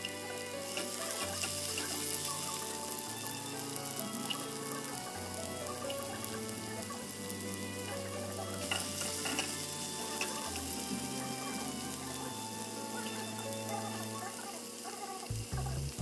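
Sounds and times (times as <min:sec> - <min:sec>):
spatula stirring: 0:00.0 - 0:14.8
vegetables sizzling in oil: 0:00.0 - 0:16.0.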